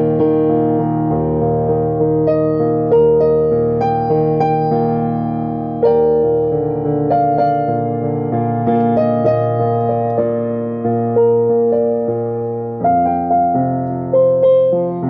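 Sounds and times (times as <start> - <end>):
digital piano melody: 0.0 - 15.0.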